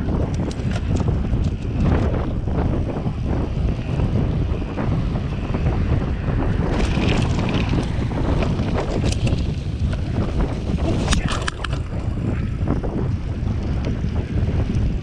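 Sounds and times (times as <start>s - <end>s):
bicycle clicks and rattles on grass: 0.0s - 15.0s
wind buffeting microphone: 0.0s - 15.0s.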